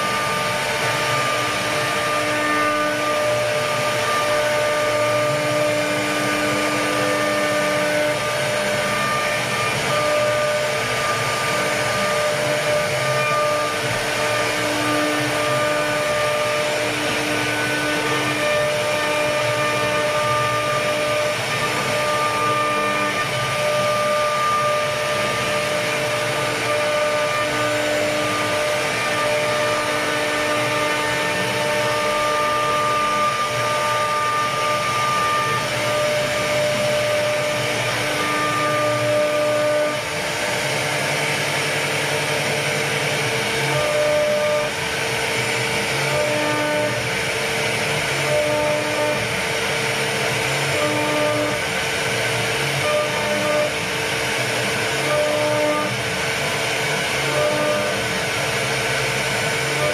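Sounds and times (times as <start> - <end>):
cutter whining tones: 0.0 - 59.9
router spindle motor hiss: 0.0 - 59.9.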